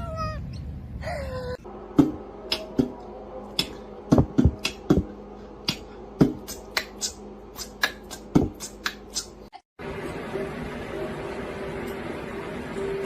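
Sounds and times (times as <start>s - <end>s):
low hum: 0.4s - 13.0s.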